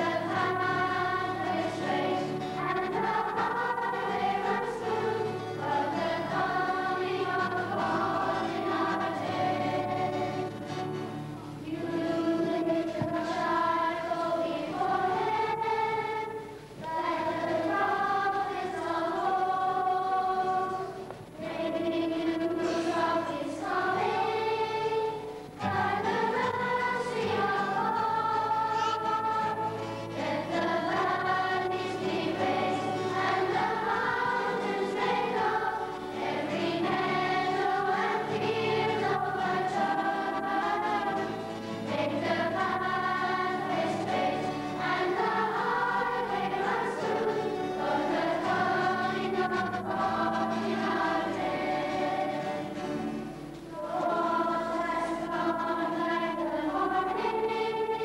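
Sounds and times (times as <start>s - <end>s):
choir of young voices singing: 0.0s - 58.0s.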